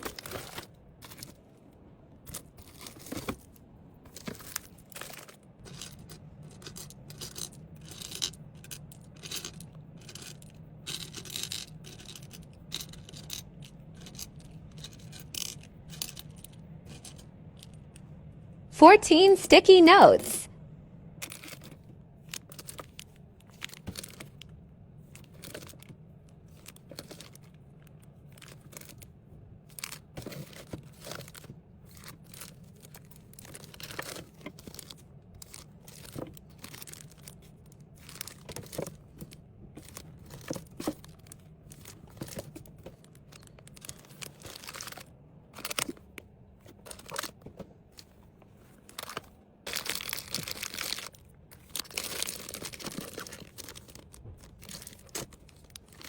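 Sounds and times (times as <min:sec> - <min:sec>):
plastic and paper crinkling: 0:00.0 - 0:01.5, 0:02.2 - 0:17.7, 0:21.2 - 0:56.0.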